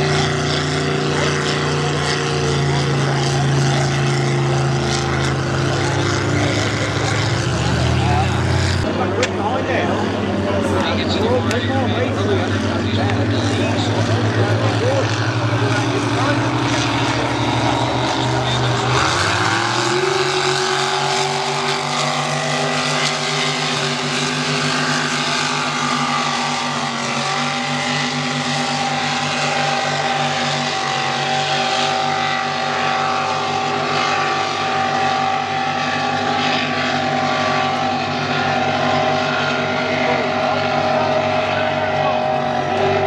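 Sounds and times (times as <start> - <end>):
boat engines droning: 0.0 - 43.0.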